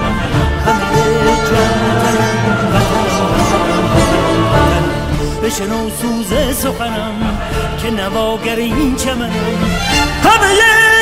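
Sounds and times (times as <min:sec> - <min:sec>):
instrumental backing music: 0:00.0 - 0:11.0
person singing: 0:00.0 - 0:11.0.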